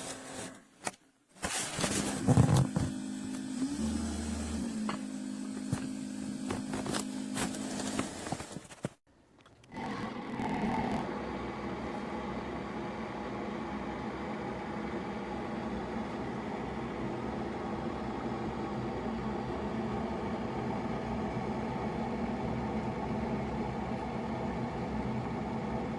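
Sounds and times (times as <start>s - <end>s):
coffee maker motor hum: 1.8s - 8.6s, 9.6s - 25.9s.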